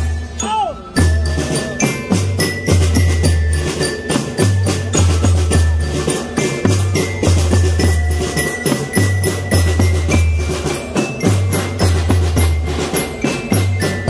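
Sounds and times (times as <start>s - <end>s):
mallet bell melody: 0.0s - 14.0s
marching drum band: 0.0s - 14.0s.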